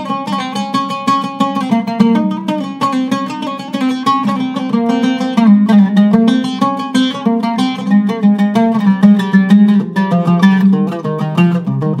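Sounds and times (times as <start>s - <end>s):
oud plucked melody: 0.0s - 12.0s.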